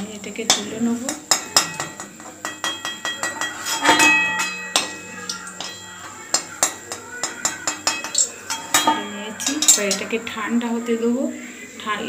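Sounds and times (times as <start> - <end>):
spatula clinking on a metal wok: 0.4 - 10.5.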